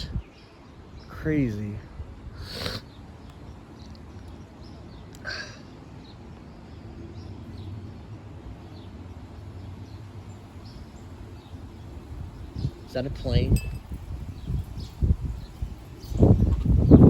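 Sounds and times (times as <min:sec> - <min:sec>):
airplane rumble overhead: 0:00.0 - 0:17.0.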